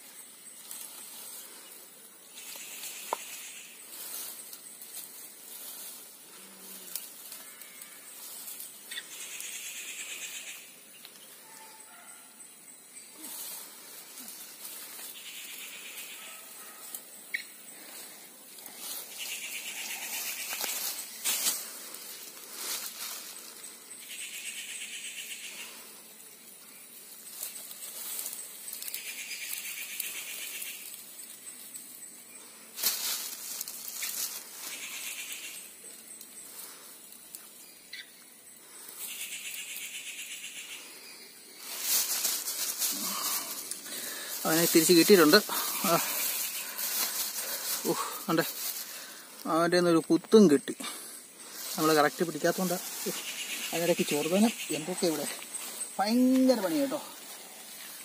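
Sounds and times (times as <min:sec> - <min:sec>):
grass rustling and crackling: 0:00.0 - 0:58.0.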